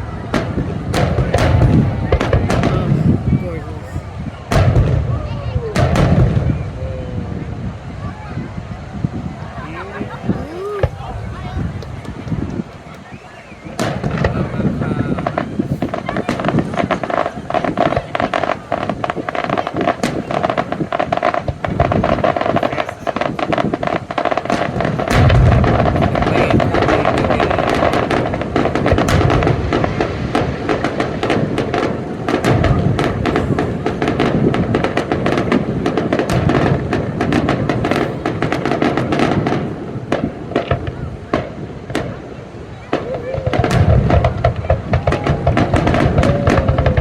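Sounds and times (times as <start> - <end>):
fireworks cracking and popping: 0.0 - 7.9, 9.0 - 47.0
deep firework booms: 0.0 - 47.0.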